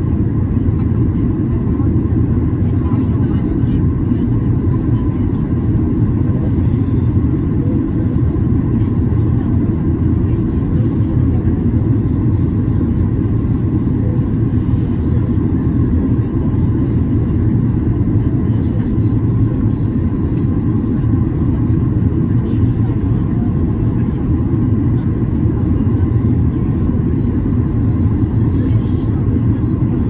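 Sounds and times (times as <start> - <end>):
jet engine cabin rumble: 0.0 - 30.0.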